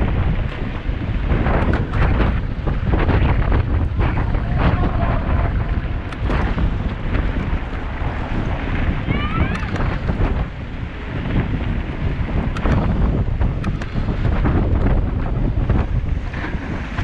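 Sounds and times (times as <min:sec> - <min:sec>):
bike clicks and rattles: 0:00.0 - 0:08.5, 0:11.3 - 0:17.0
tyres rumbling on gravel: 0:00.0 - 0:16.5
wind buffeting microphone: 0:00.0 - 0:17.0.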